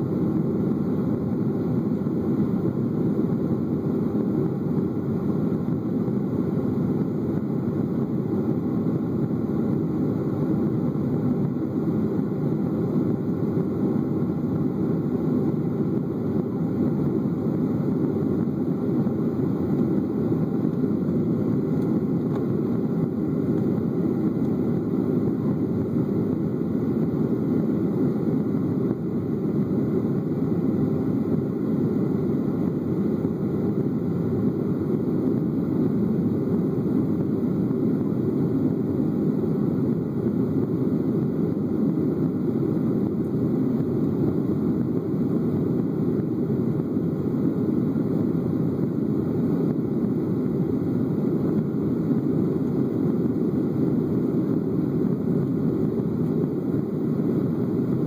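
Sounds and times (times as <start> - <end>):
jet airliner cabin drone: 0.0 - 58.0.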